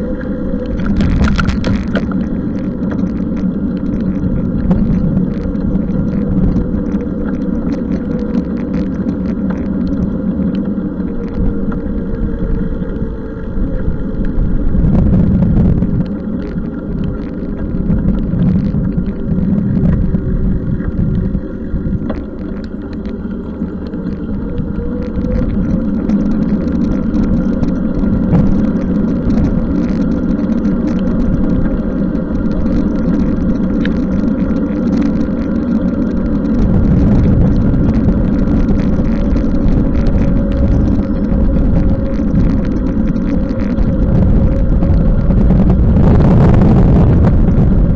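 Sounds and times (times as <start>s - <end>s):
steady whine: 0.0s - 47.9s
wind buffeting microphone: 0.0s - 47.9s.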